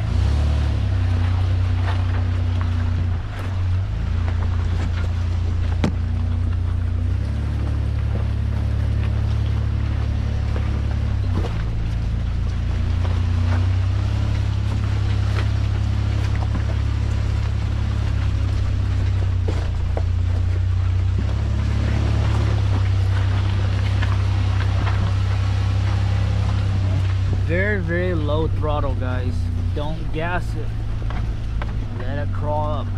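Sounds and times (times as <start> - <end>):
truck engine low drone: 0.0 - 32.9
tyres knocking over rocks: 1.1 - 28.4.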